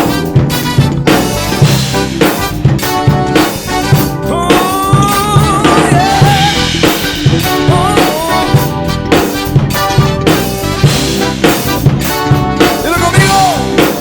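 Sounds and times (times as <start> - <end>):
lead melody bending in pitch: 0.0 - 13.5
kick drum and snare hits: 0.0 - 14.0
live band playing upbeat song: 0.0 - 14.0.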